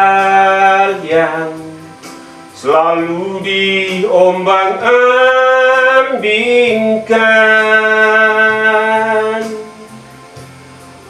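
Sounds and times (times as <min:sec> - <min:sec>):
man singing a ballad: 0:00.0 - 0:10.0
electronic keyboard accompaniment: 0:00.0 - 0:11.0.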